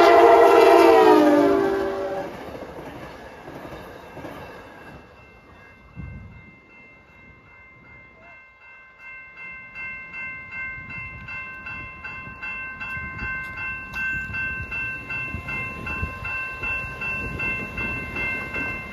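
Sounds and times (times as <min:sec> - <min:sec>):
train rumble: 0:00.0 - 0:08.3, 0:09.7 - 0:18.9
crossing bell ringing: 0:00.0 - 0:18.9.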